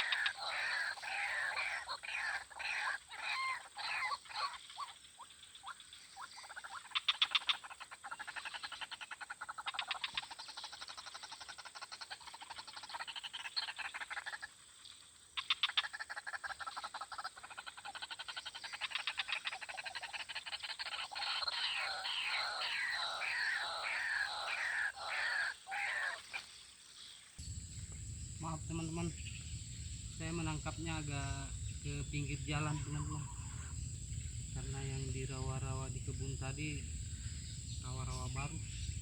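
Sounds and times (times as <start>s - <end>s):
rapid pulsing animal trill: 0.0s - 14.4s, 15.6s - 26.4s, 27.4s - 39.0s.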